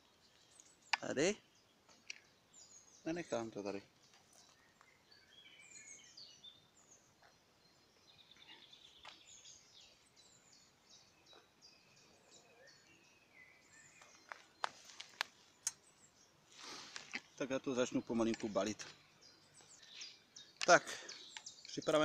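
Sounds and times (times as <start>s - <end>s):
faint songbirds singing: 0.0s - 22.0s.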